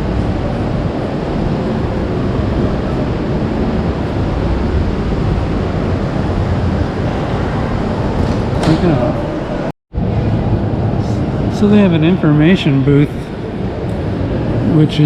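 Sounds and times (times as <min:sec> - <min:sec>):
railway station hall rumble: 0:00.0 - 0:15.0.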